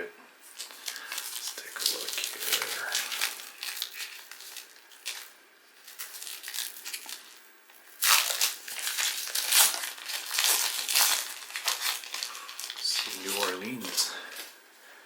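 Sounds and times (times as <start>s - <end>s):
plastic wrapper crinkling: 0.4s - 14.5s.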